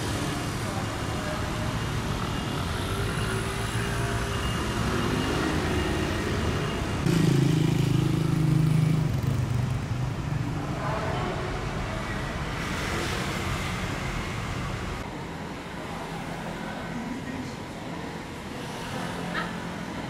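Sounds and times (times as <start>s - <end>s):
motor vehicles passing: 0.0s - 20.0s.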